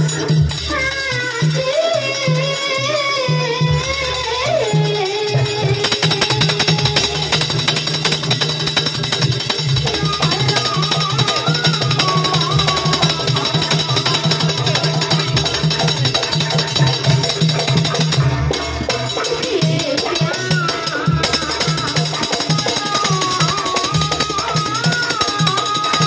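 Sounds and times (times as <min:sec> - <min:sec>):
drums: 0:00.0 - 0:26.0.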